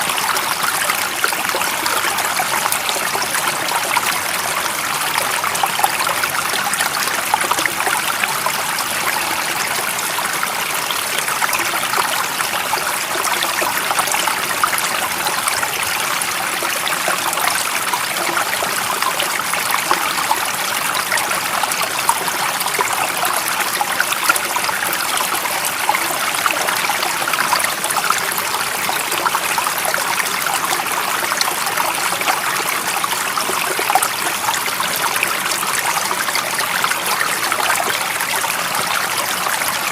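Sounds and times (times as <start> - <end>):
stream water flowing and babbling: 0.0 - 39.9.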